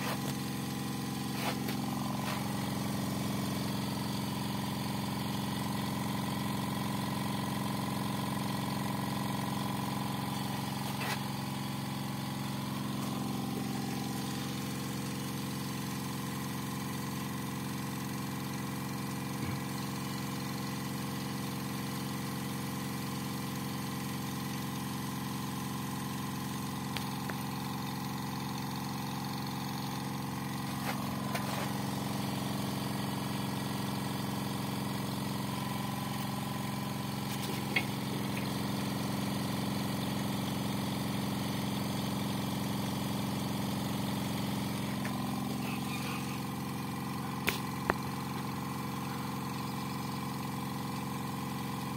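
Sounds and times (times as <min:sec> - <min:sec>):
air compressor humming: 0:00.0 - 0:51.9.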